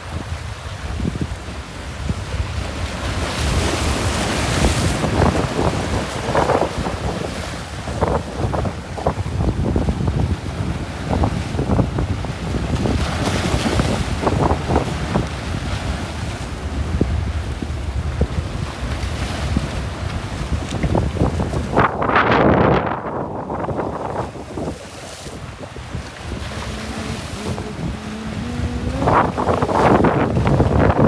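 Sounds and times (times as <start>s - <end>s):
sea waves splashing: 0.0s - 31.0s
wind buffeting microphone: 0.0s - 31.0s.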